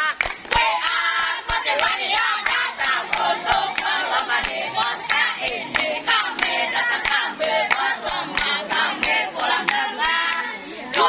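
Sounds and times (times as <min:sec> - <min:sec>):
rhythmic hand clapping: 0:00.0 - 0:11.0
young voices singing in unison: 0:00.0 - 0:11.0.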